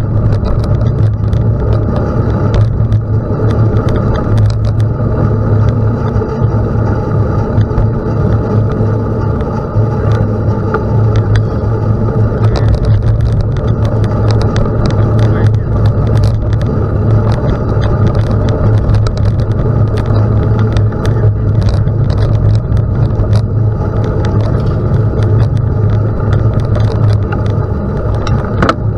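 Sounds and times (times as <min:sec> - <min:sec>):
bicycle rolling on gravel: 0:00.0 - 0:28.9
stones and bike rattling: 0:00.0 - 0:28.9
wind buffeting microphone: 0:00.0 - 0:28.9.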